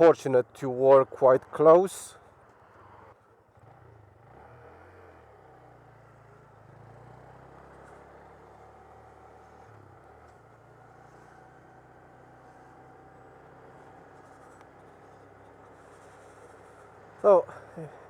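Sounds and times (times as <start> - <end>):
faint motorcycle engine hum: 0.0 - 18.0.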